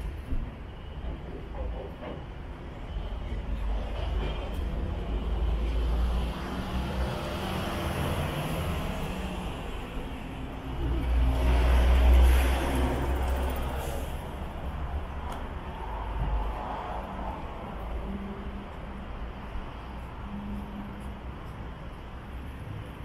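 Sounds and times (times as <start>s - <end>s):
traffic driving past: 0.0s - 23.0s.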